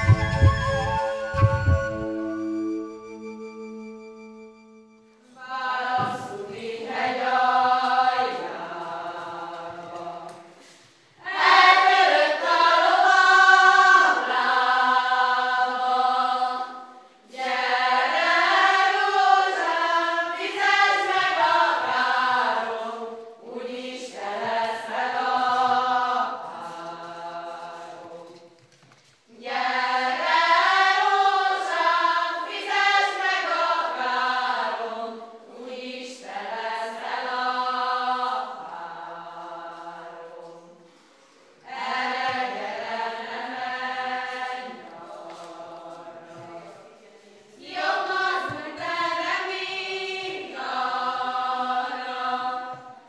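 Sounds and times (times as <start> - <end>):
women singing unaccompanied: 5.4 - 10.6, 11.2 - 28.6, 29.3 - 40.8, 41.6 - 53.0.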